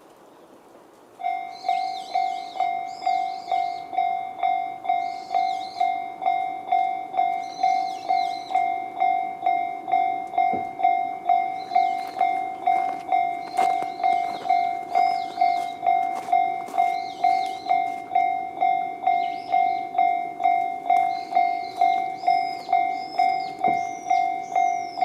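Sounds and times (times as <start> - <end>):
birds chirping: 0.1 - 9.3, 9.9 - 25.0
level crossing bell dinging: 1.2 - 25.0.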